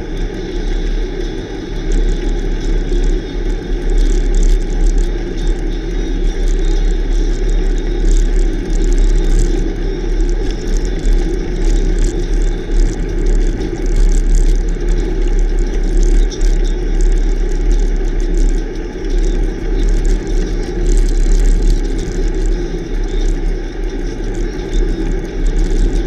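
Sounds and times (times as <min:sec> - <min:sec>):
bicycle tyres rumbling on rough road: 0:00.0 - 0:26.0.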